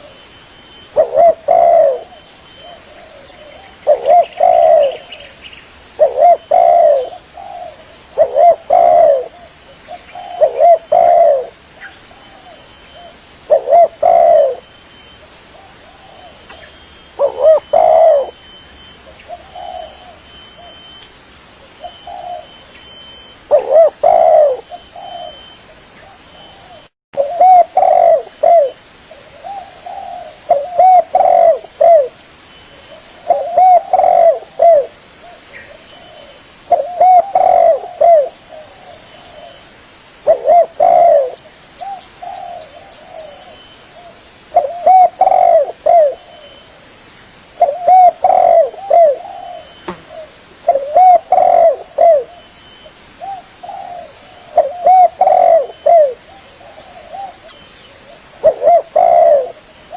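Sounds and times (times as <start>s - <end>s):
dove cooing: 0.0s - 21.0s, 21.7s - 39.6s, 40.2s - 46.7s, 47.6s - 59.9s.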